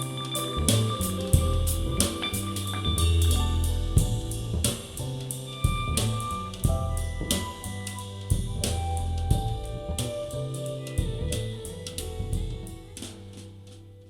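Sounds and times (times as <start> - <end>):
instrumental band music: 0.0 - 14.0.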